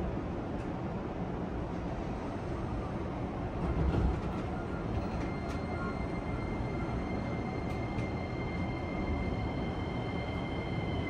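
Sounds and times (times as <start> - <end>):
train car rumble and hiss: 0.0 - 11.0.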